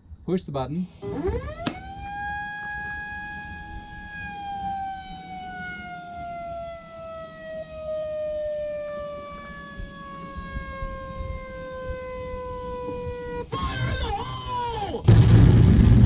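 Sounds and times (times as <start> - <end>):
siren winding down through speaker: 1.0 - 15.0.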